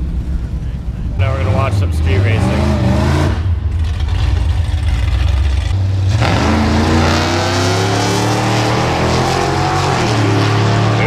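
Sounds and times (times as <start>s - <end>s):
car engines accelerating: 0.0s - 11.0s.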